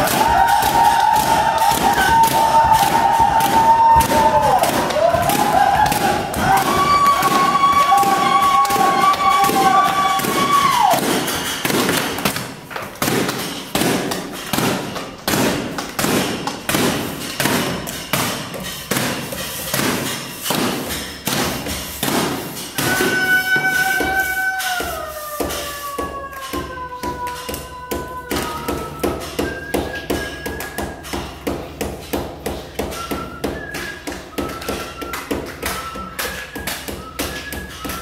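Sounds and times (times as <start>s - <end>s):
knocks echoing in concrete space: 0.0s - 38.0s.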